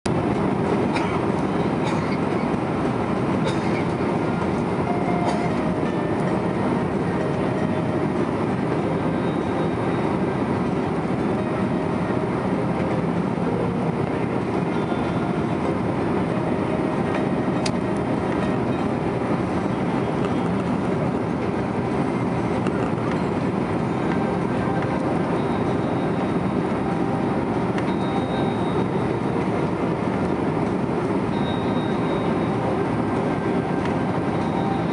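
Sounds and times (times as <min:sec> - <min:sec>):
airliner cabin engine roar: 0:00.0 - 0:34.9.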